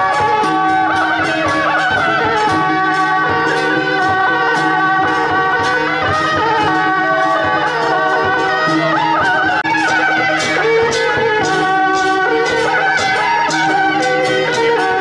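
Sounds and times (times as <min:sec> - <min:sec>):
cymbals struck: 0:00.0 - 0:15.0
double-reed horns melody: 0:00.0 - 0:15.0
drums: 0:00.0 - 0:15.0
gongs: 0:00.0 - 0:15.0.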